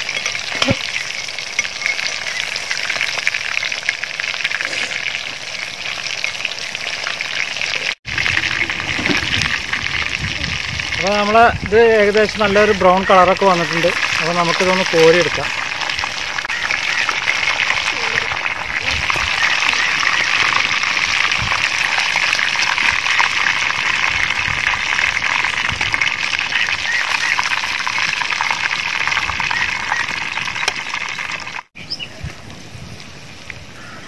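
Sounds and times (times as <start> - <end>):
hot oil sizzling and crackling: 0.0 - 34.0.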